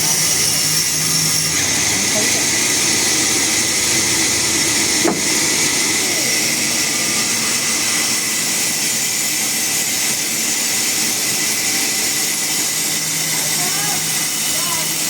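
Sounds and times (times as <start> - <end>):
sawmill machinery hissing: 0.0 - 15.0.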